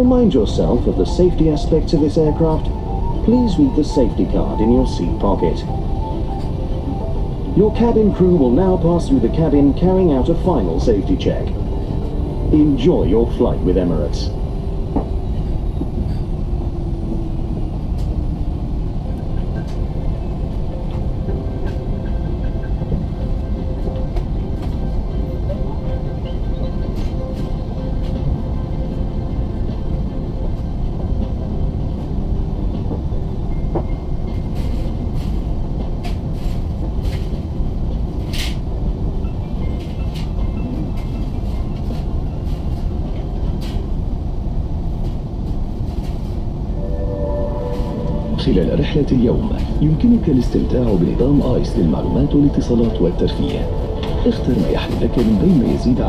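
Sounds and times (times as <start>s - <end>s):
low cabin rumble: 0.0s - 56.0s.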